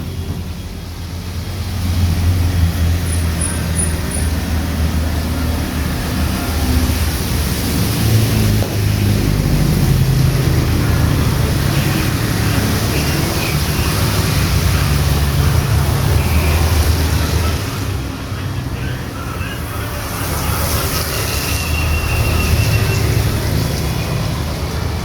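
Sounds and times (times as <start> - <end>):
heavy rain falling: 0.0 - 25.0
vehicles driving past on wet street: 0.0 - 25.0.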